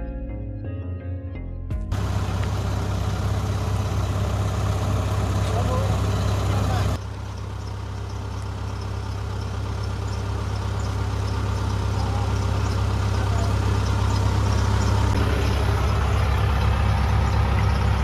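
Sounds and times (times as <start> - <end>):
engine idling: 1.9 - 18.0.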